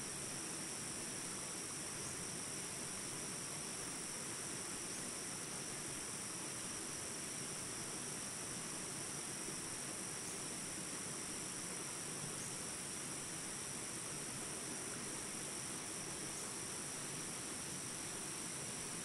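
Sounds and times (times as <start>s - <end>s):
background hiss: 0.0s - 19.0s
insect chorus drone: 0.0s - 19.0s.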